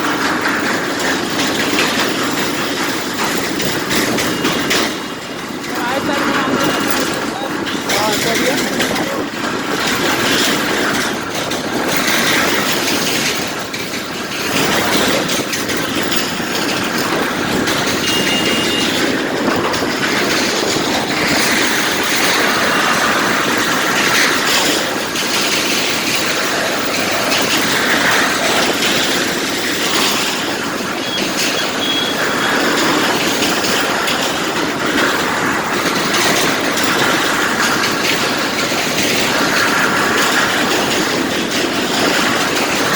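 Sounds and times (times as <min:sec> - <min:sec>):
vehicle rolling over steel deck plates: 0:00.0 - 0:42.9.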